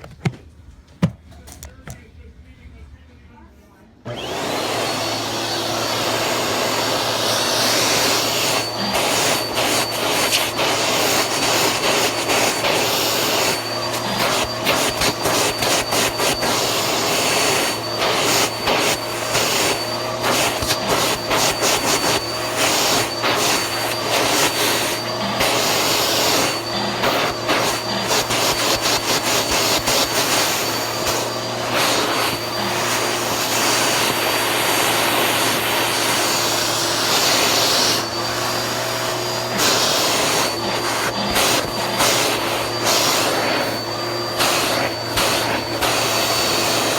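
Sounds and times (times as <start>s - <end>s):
vacuum cleaner running: 4.0s - 46.9s.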